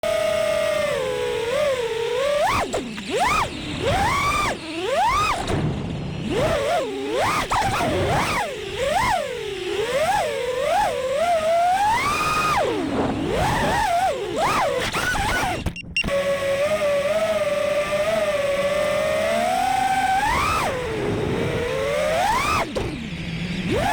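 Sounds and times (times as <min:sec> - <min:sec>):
quadcopter motors whining: 0:00.0 - 0:23.9.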